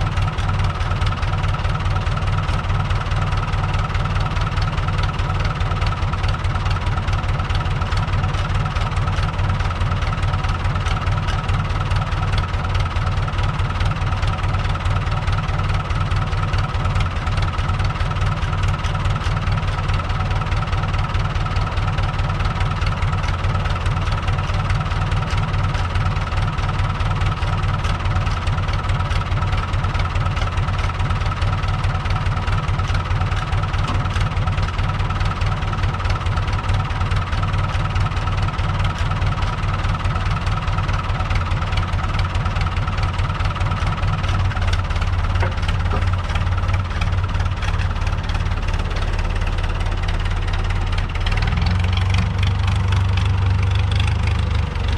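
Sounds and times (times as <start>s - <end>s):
diesel tractor engine running: 0.0s - 54.9s.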